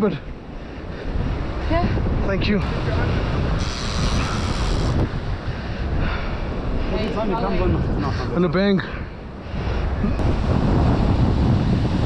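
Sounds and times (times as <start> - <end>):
wind buffeting microphone: 0.0 - 12.0
ocean surf rushing: 0.4 - 12.0.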